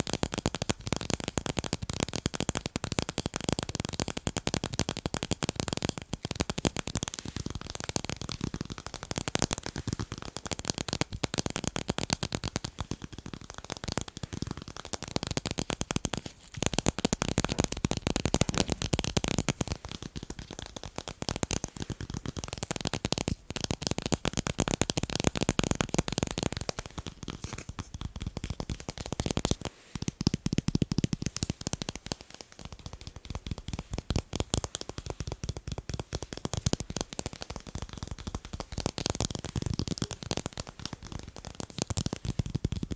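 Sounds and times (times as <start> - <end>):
fast tapping on tape: 0.0 - 42.9.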